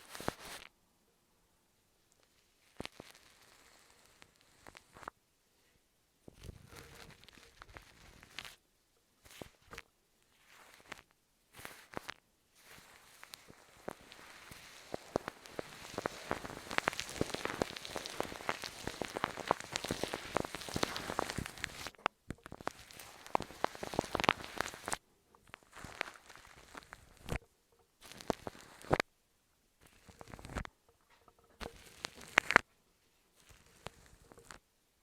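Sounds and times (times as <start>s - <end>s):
dense crackling and clicking: 2.1s - 5.2s, 6.3s - 8.6s, 9.2s - 9.9s, 10.5s - 29.1s, 29.8s - 35.0s.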